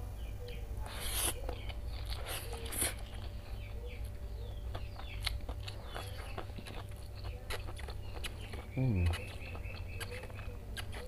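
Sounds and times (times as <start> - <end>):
small birds chirping: 0.0 - 11.0
steady low hum: 0.0 - 11.0
wet chewing and mouth clicks: 0.8 - 11.0.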